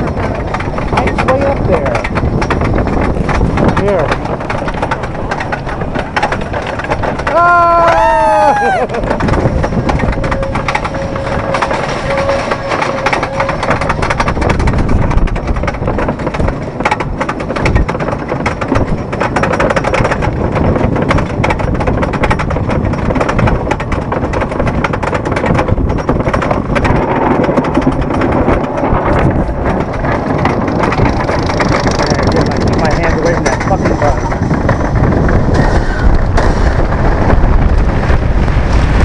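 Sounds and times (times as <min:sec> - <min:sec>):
roller coaster lift chain clacking: 0:00.0 - 0:39.0.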